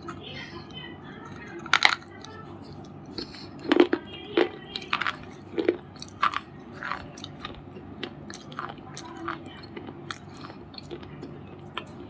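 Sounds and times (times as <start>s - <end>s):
crisp chewing crunches: 0.0s - 12.0s.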